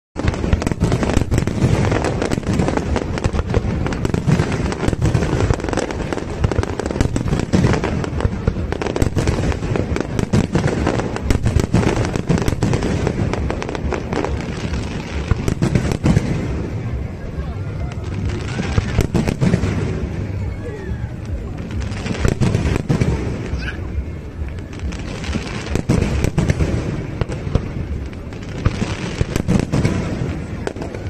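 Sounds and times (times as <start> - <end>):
fireworks bursting: 0.2 - 31.0.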